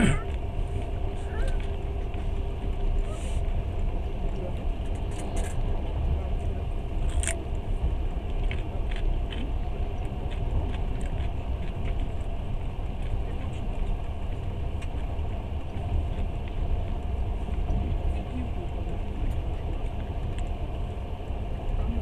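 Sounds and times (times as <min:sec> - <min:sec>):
passenger train rumbling: 0:00.0 - 0:22.0.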